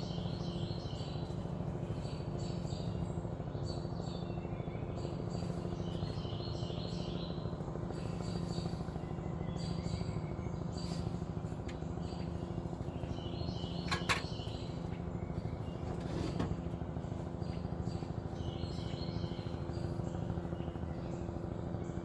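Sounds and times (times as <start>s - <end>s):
birds chirping: 0.0s - 22.0s
helicopter hovering: 0.0s - 22.0s.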